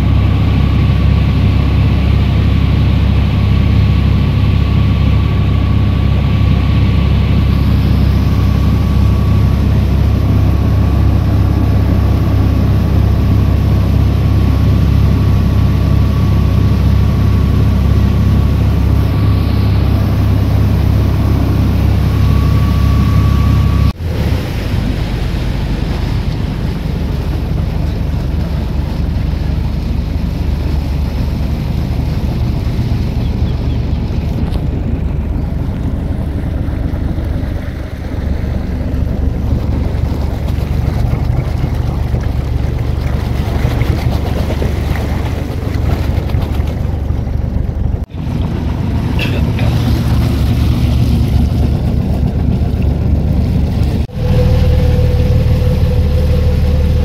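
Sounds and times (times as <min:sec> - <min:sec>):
boat engine running: 0:00.0 - 0:57.0
water noise: 0:00.0 - 0:57.0
wind noise: 0:00.0 - 0:57.0.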